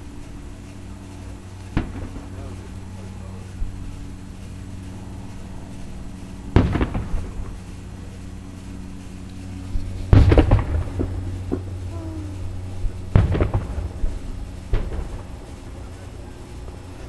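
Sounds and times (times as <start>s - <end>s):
firework shells bursting: 0.0s - 17.0s
low hum: 0.0s - 17.0s.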